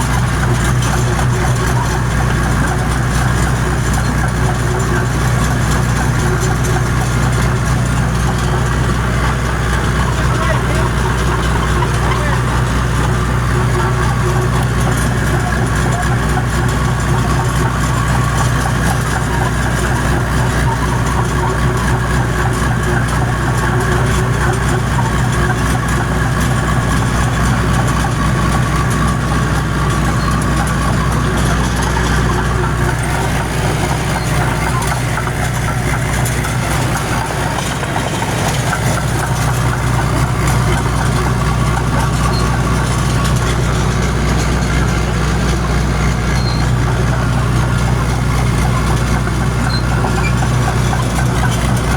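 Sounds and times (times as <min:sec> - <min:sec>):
dozer engine running under load: 0:00.0 - 0:51.9.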